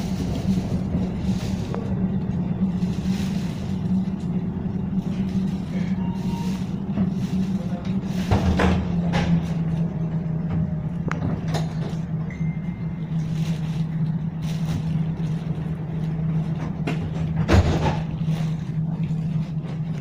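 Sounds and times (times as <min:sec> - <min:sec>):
tram equipment humming: 0:00.0 - 0:20.0.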